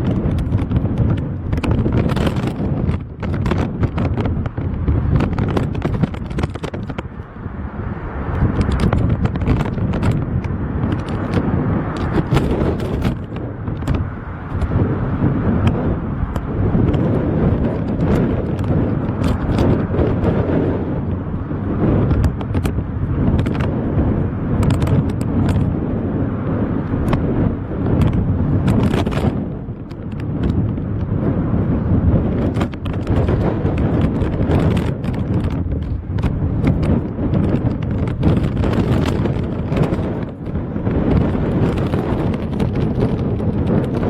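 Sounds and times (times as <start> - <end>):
storm wind buffeting microphone: 0.0 - 44.0.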